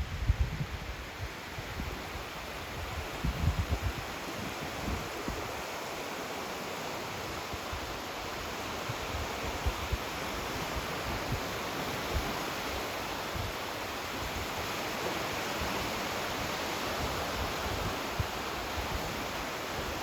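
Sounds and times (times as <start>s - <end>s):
surf washing onto beach: 0.7s - 20.0s.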